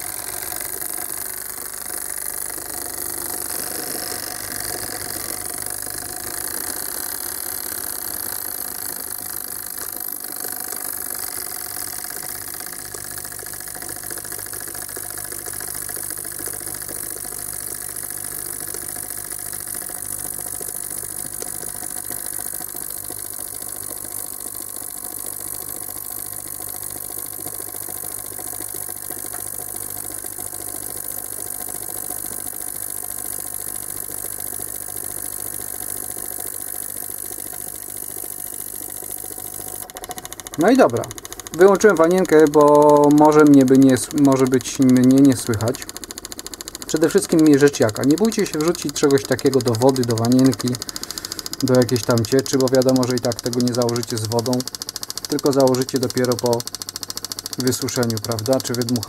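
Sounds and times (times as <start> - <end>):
ultrasonic cleaner buzzing hum: 0.0 - 59.0.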